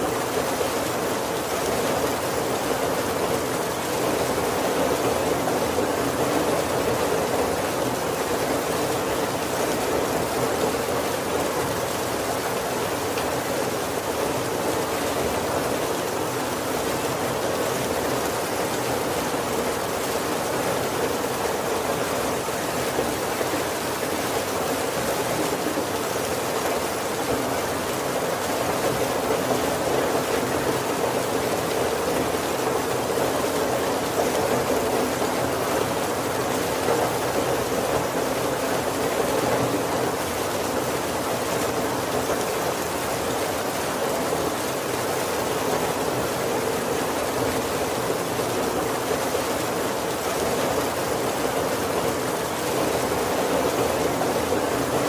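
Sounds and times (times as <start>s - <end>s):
heavy rain on roof and windows: 0.0s - 55.0s.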